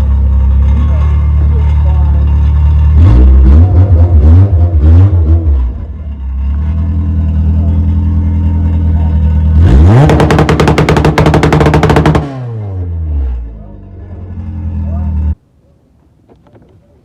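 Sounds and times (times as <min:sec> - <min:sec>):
car engine idling and revving: 0:00.0 - 0:15.4.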